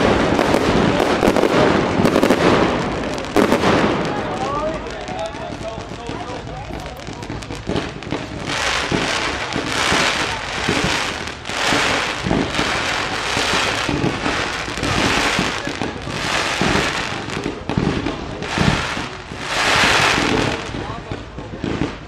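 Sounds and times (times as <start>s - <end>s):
fireworks crackling and hissing: 0.0s - 22.0s
low firework thumps: 0.0s - 22.0s.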